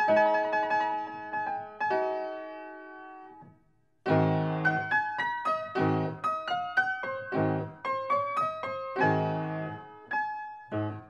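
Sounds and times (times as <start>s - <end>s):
piano music: 0.0s - 3.4s, 4.1s - 11.0s.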